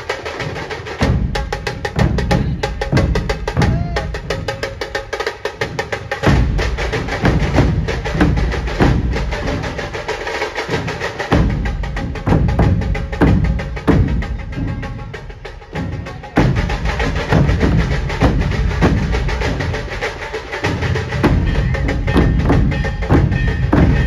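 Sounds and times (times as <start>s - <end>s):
large barrel drums booming: 1.0s - 4.8s, 5.6s - 10.1s, 10.7s - 24.0s.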